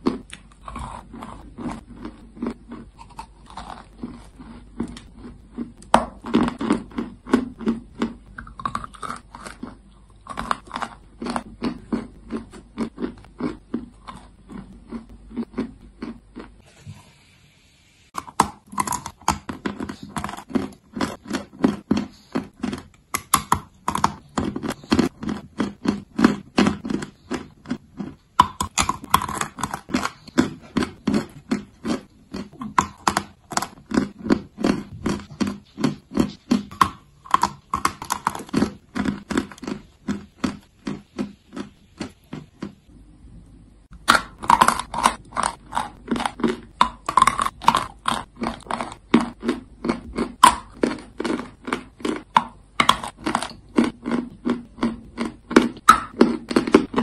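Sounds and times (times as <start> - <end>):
crunchy chewing: 0.0 - 16.6, 18.2 - 43.0, 44.0 - 57.0.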